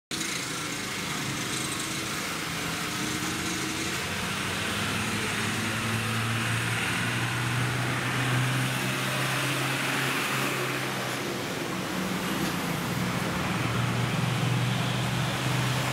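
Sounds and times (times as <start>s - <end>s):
motorbike engines running: 0.1s - 15.9s
street traffic: 0.1s - 15.9s.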